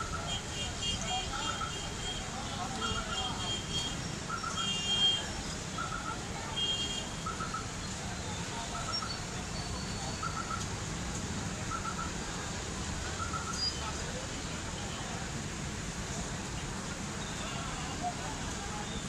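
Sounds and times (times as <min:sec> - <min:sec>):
motorbike and truck engines rumbling: 0:00.0 - 0:19.0.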